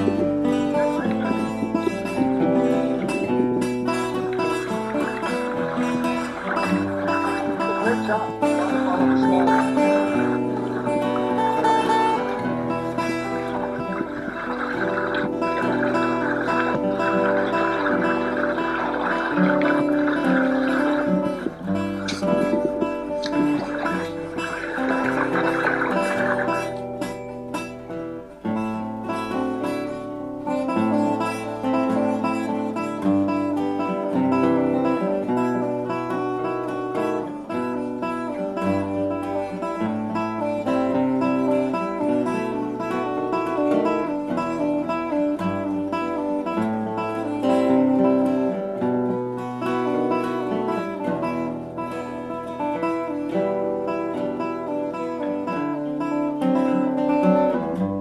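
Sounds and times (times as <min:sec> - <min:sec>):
acoustic guitar piece: 0:00.0 - 0:58.0.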